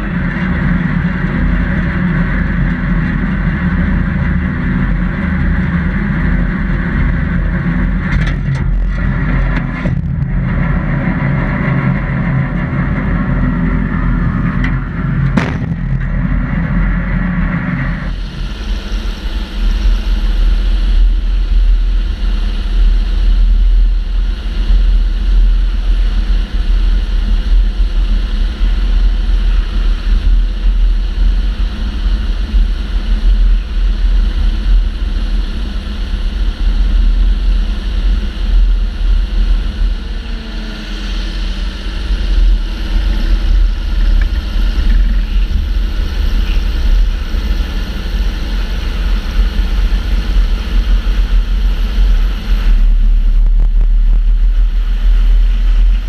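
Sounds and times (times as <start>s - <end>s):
tractor engine running: 0.0s - 56.0s
wind rumble on microphone: 0.0s - 56.0s.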